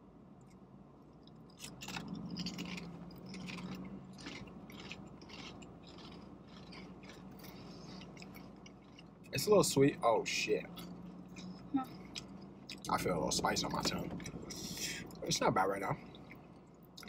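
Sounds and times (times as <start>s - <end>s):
low steady hum: 0.0s - 17.0s
people chewing crunchy chips: 0.4s - 17.0s.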